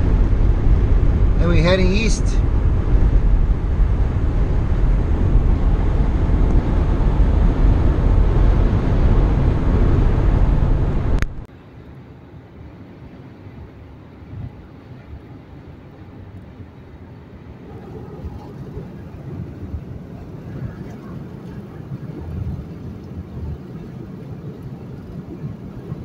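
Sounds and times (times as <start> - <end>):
road and engine noise in car: 0.0 - 26.0.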